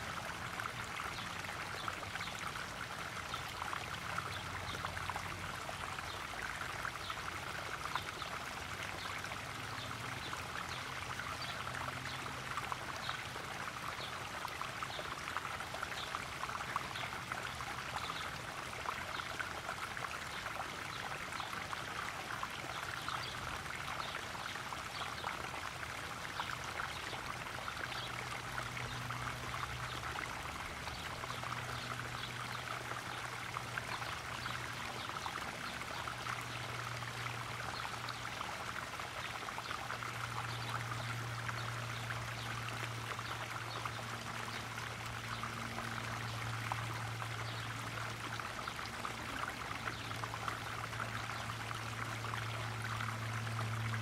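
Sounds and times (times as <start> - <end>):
waterfall splashing into pond: 0.0 - 54.0.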